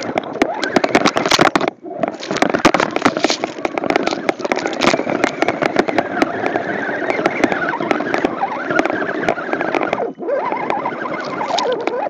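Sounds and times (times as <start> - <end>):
crackles and clicks of weeds and mud: 0.0 - 12.0
electric motor whining: 0.0 - 12.0.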